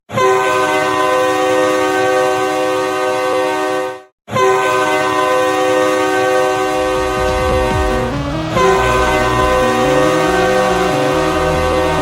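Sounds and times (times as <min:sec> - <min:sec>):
hockey goal horn: 0:00.1 - 0:12.0.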